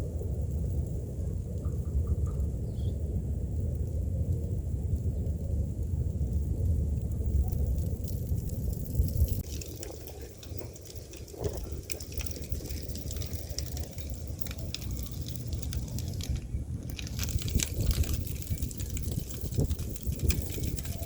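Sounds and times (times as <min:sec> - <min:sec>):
wind rumbling against microphone: 0:00.0 - 0:21.0
scattered crackling ticks: 0:00.4 - 0:02.5, 0:03.6 - 0:21.0.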